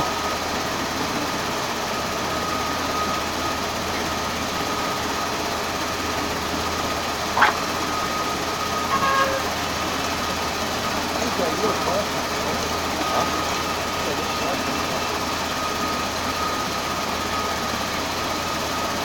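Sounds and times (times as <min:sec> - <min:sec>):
faint machine whine: 0:00.0 - 0:19.0.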